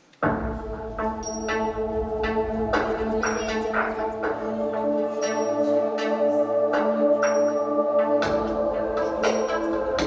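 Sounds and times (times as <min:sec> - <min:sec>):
sustained chords: 0:00.2 - 0:10.0.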